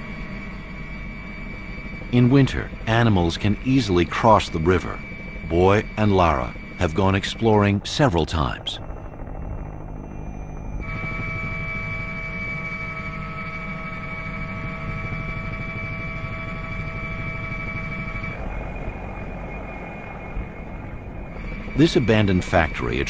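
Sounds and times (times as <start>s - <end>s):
helicopter rotor rumble: 0.0s - 23.0s
helicopter turbine whine: 0.0s - 23.0s.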